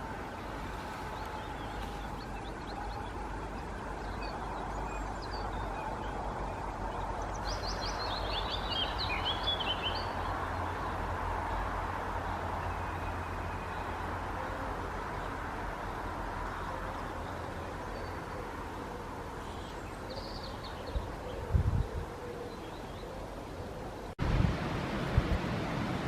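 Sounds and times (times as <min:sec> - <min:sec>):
songbird singing: 0:00.0 - 0:24.2.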